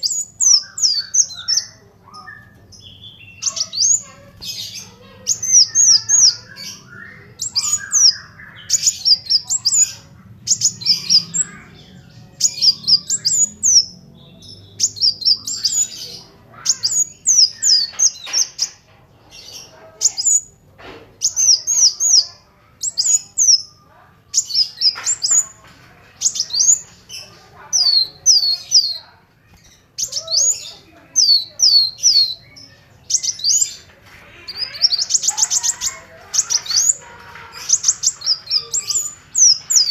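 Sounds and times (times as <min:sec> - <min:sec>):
bird high thin chirps: 0:00.0 - 0:20.6, 0:21.2 - 0:39.9.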